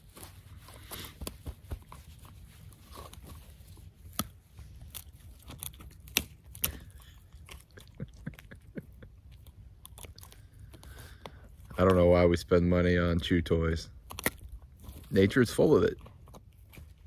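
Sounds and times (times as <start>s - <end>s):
dog chewing and crunching: 0.1s - 17.0s.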